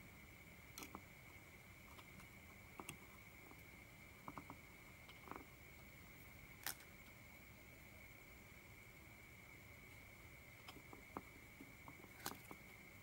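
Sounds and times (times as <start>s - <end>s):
faint high-pitched whine: 0.0s - 13.0s.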